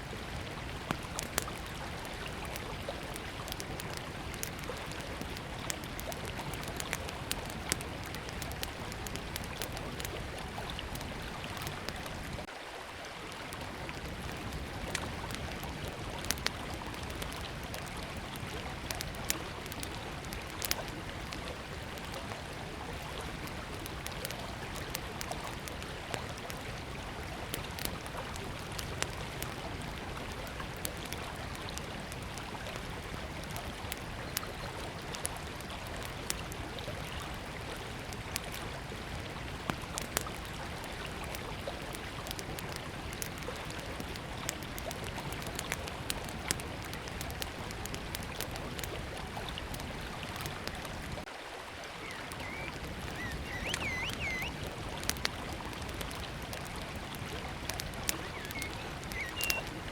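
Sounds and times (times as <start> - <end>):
river flowing: 0.0 - 59.9
wood fire crackling: 0.1 - 12.5, 13.4 - 59.9.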